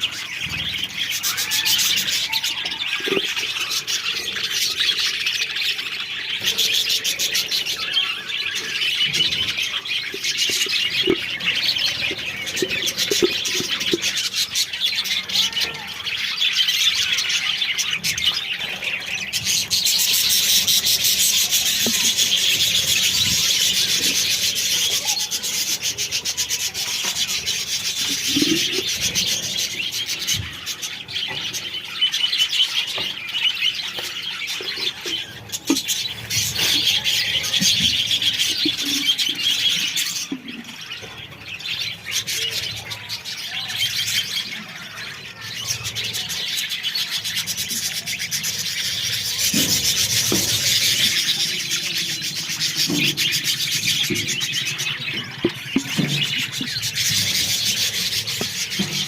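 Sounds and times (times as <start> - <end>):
budgerigars chattering and chirping: 0.0 - 59.0.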